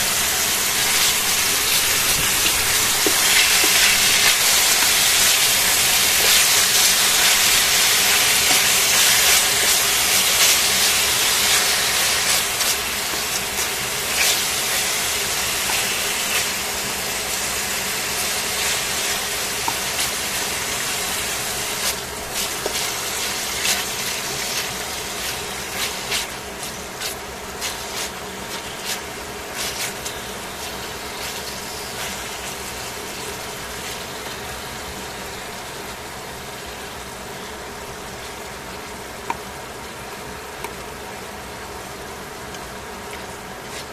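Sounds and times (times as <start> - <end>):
meat sizzling in a frying pan: 0.0 - 37.1.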